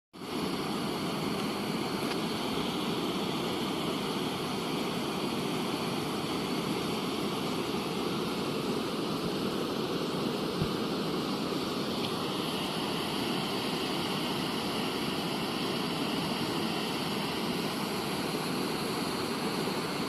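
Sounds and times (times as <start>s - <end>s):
river floodwater rushing: 0.2s - 20.0s.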